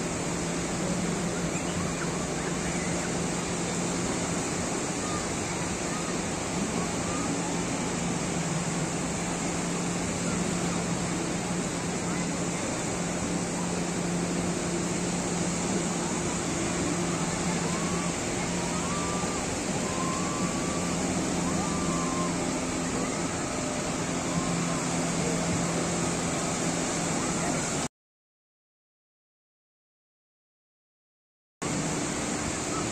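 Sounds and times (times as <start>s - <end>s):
motorboat engines humming: 0.0s - 27.9s, 31.6s - 32.9s
surf breaking on beach: 0.0s - 27.9s.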